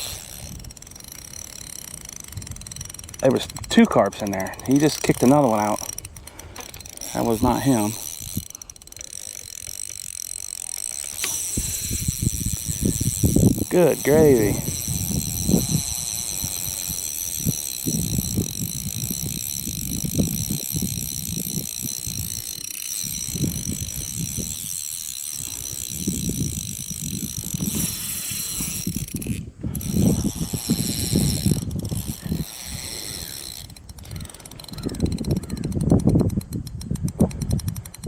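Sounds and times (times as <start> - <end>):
fishing reel ratcheting and whirring: 0.0 - 38.0.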